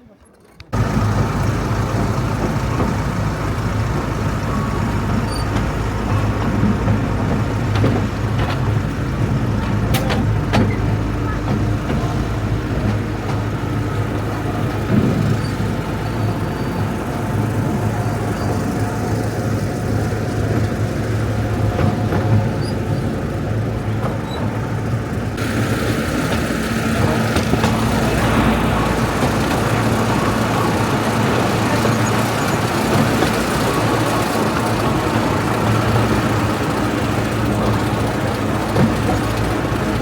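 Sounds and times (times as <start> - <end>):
train rumbling: 0.0 - 40.0
train engine drone: 0.4 - 40.0.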